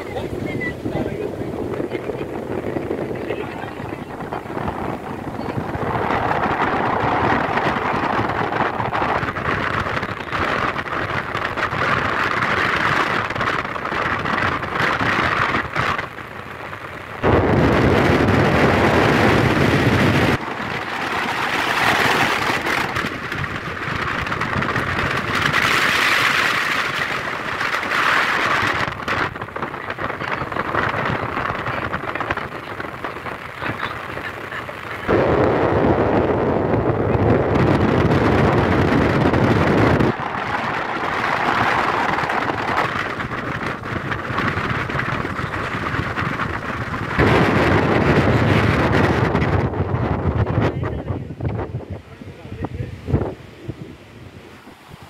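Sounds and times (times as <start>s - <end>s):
heavy wind gusting on microphone: 0.0s - 55.0s.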